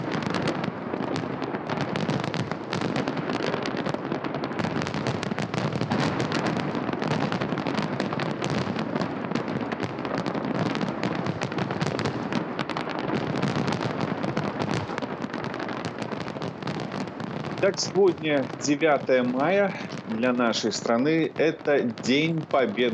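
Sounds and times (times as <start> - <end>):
fireworks crackling bangs: 0.0 - 22.9.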